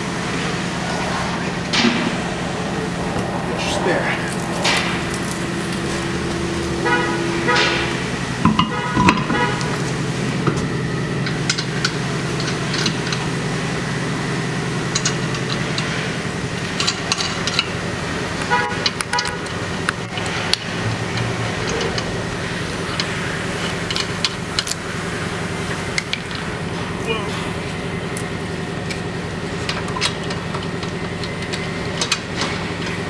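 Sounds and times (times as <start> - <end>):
steady low hum: 0.0 - 33.0
wheel and lug nuts clinking: 0.0 - 33.0.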